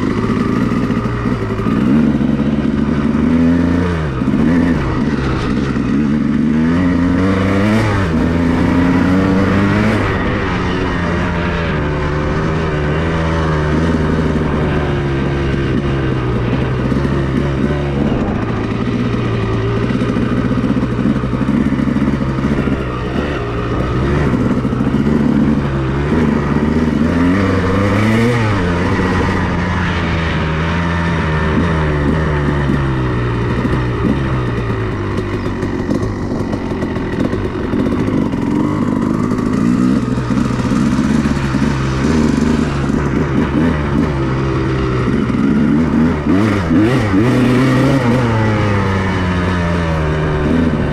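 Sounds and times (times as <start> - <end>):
two-stroke motorcycle engine revving: 0.0 - 50.9.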